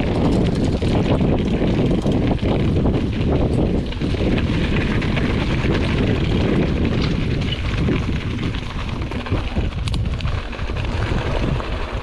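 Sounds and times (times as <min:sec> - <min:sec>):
bike rattles and knocks: 0:00.0 - 0:12.0
bike tyre rumble on dirt: 0:00.0 - 0:12.0
wind buffeting microphone: 0:00.0 - 0:12.0.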